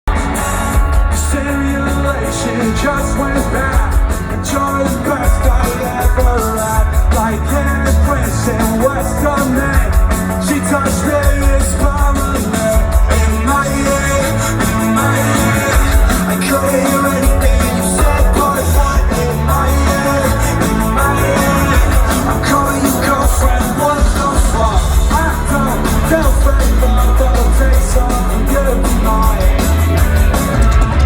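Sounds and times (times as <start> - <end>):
live rock band playing: 0.0 - 31.0
person singing: 0.1 - 31.0.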